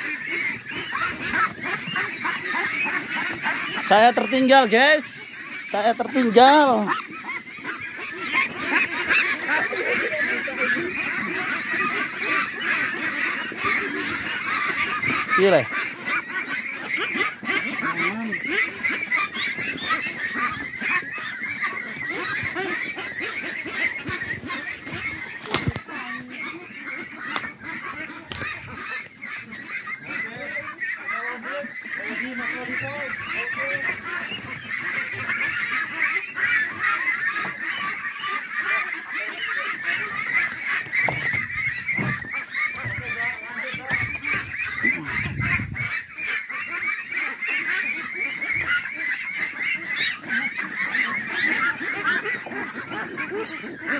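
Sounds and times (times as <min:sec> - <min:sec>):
ducks quacking: 0:00.0 - 0:53.9.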